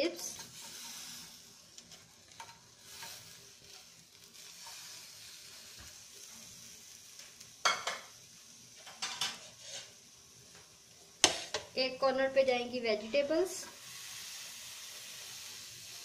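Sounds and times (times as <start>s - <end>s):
food sizzling in a grill pan: 0.0s - 16.0s.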